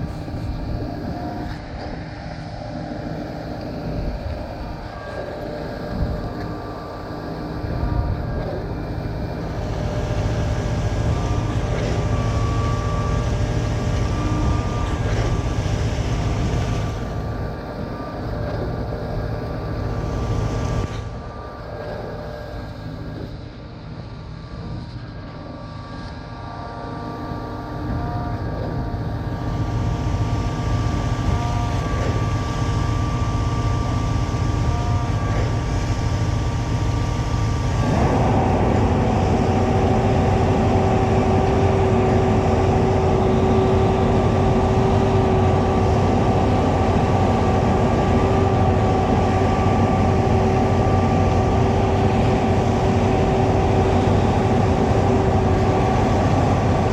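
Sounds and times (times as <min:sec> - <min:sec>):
concrete pump truck running: 0:00.0 - 0:24.2, 0:25.0 - 0:56.9.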